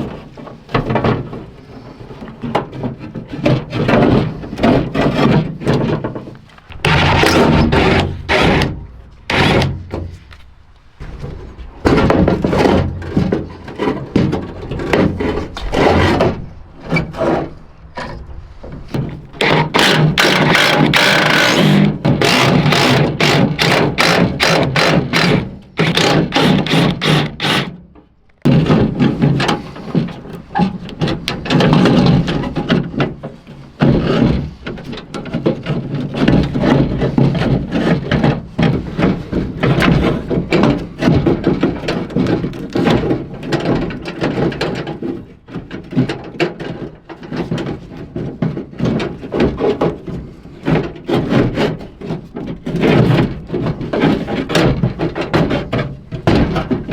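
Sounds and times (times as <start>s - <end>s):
knocks and rattles of hand work: 0.0s - 56.9s.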